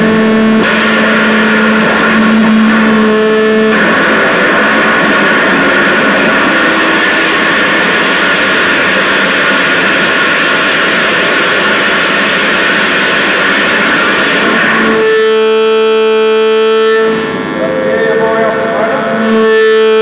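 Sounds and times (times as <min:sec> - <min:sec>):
ringing feedback tones: 0:00.0 - 0:10.4, 0:11.1 - 0:20.0.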